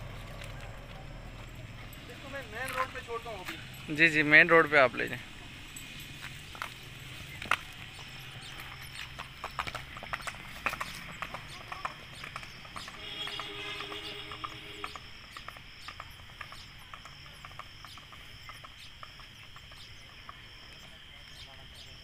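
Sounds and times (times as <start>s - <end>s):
horse hooves on pavement: 0.0s - 22.0s.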